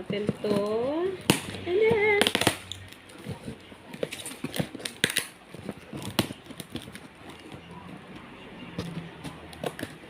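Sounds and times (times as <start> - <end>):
cardboard and tape crackling: 0.0 - 10.0.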